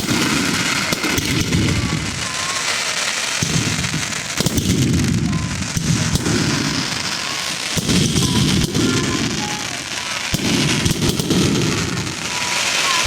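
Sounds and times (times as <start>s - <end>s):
faint fireworks whistles: 0.0s - 13.0s
fireworks bangs and crackles: 0.0s - 13.0s.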